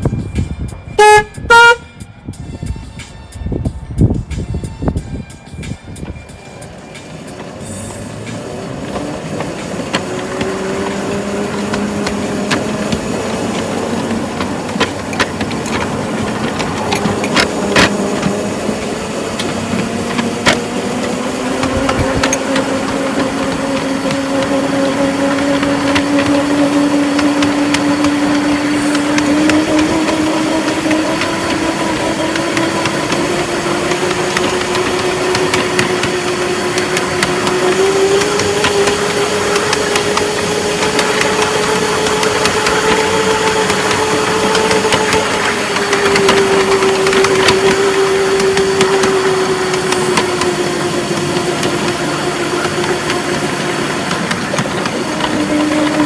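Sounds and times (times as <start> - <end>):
vehicle engine running: 3.6 - 56.0.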